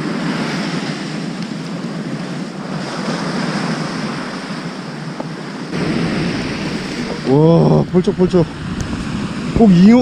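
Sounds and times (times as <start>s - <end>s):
surf breaking on beach: 0.0s - 10.0s
wind on microphone: 0.0s - 10.0s.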